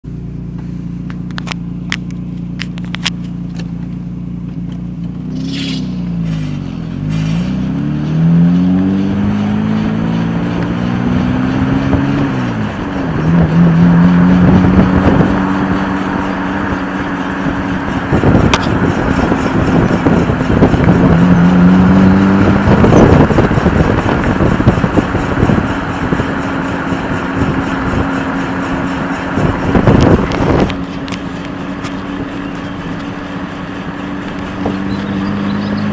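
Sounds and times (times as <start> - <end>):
car engine idling and accelerating: 0.0 - 35.9
road noise: 0.0 - 35.9
wheel bearing drone: 0.0 - 35.9.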